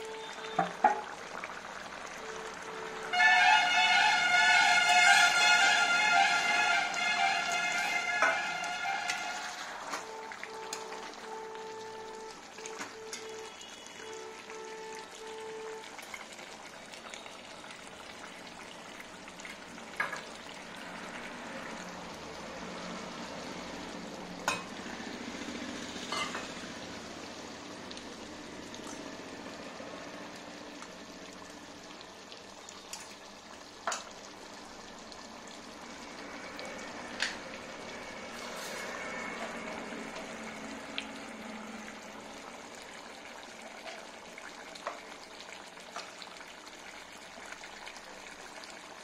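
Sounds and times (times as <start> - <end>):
food sizzling: 0.0 - 49.0.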